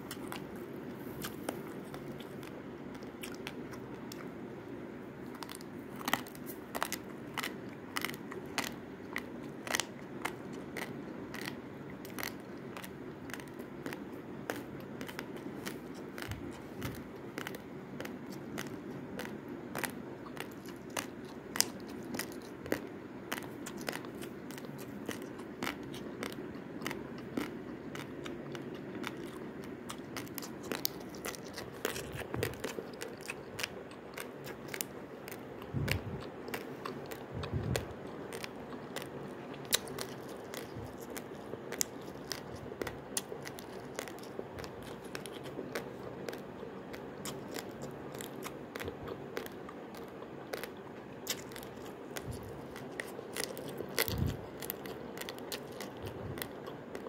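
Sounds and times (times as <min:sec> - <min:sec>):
raw rice crunching when chewed: 0:00.0 - 0:04.4, 0:05.2 - 0:57.0
steady low hum: 0:00.0 - 0:57.0.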